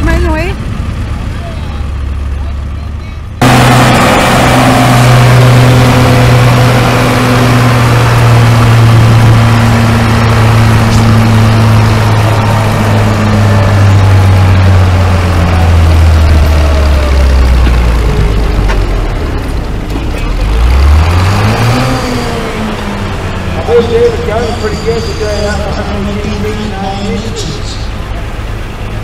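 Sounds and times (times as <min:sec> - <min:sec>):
tractor engine lugging under load: 0:00.0 - 0:25.8.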